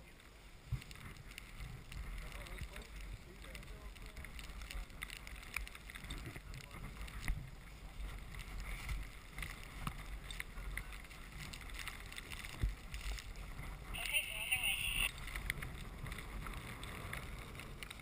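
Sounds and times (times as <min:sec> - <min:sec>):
skis and poles clicking in snow: 0:00.0 - 0:18.0
wind rumbling on microphone: 0:00.0 - 0:18.0.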